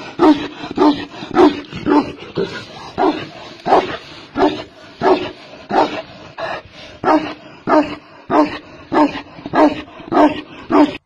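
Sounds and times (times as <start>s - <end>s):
dog barking: 0.2s - 11.0s.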